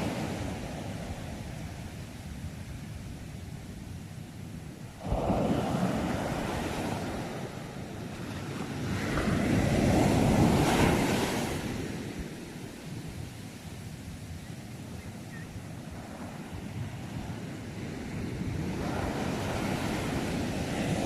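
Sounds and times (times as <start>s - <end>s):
sea waves crashing: 0.0s - 2.2s, 4.8s - 14.1s, 14.8s - 21.0s
steady surf: 0.0s - 21.0s.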